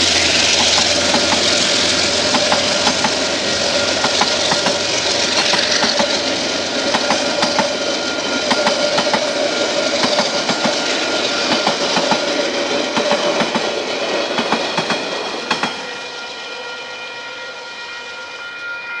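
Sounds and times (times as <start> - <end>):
train wheels clicking over rail joints: 0.0 - 16.2
train carriages rumbling: 0.0 - 18.7.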